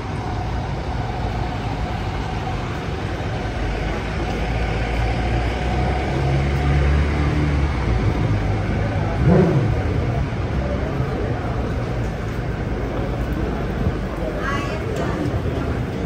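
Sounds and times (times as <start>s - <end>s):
bus engine rumble: 0.0s - 16.0s
city street traffic: 0.0s - 16.0s.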